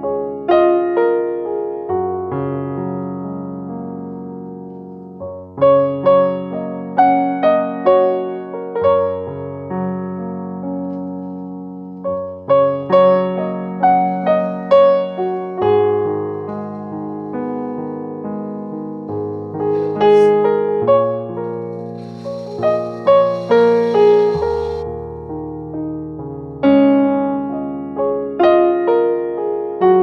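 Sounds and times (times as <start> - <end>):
slow piano chords: 0.0 - 30.0.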